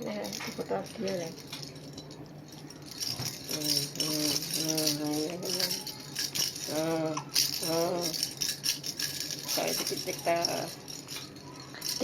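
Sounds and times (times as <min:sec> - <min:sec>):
toy rattle shaken: 0:00.0 - 0:12.0.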